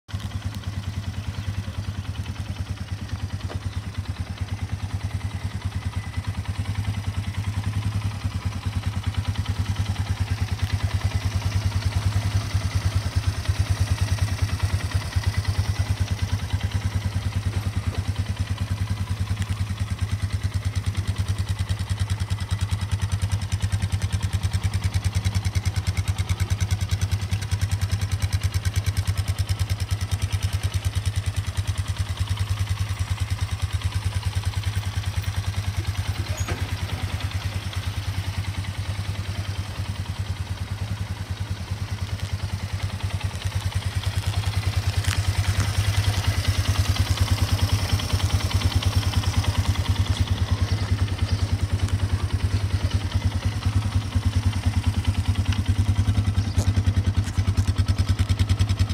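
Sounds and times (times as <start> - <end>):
atv engine idling: 0.1 - 58.9.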